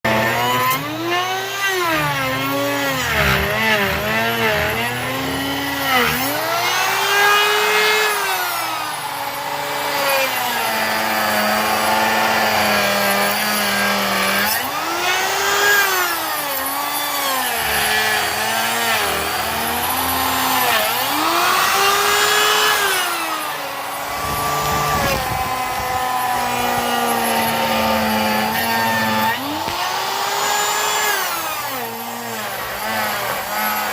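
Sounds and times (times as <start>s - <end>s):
router cutting wood: 0.0s - 33.9s.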